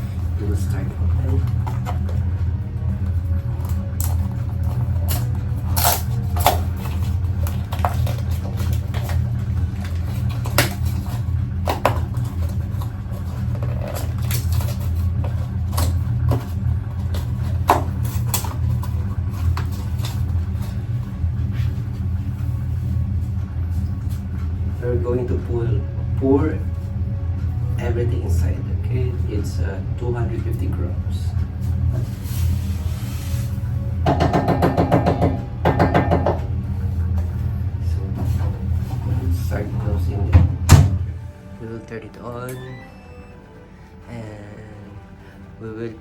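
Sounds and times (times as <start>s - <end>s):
low background rumble: 0.0s - 34.2s, 35.2s - 42.2s.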